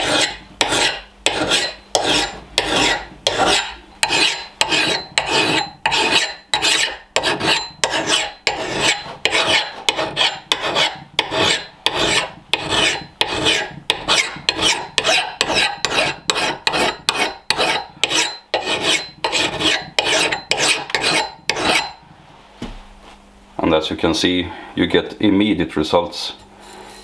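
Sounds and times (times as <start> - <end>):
file rasping on steel: 0.0 - 22.0.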